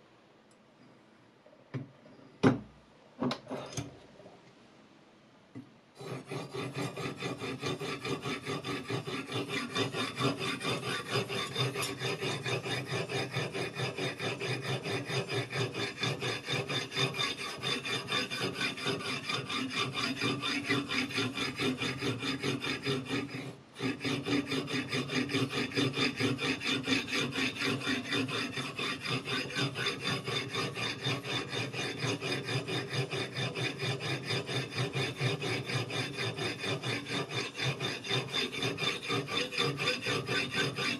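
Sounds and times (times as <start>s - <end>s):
whetstone scraping knife edge: 6.0s - 40.9s.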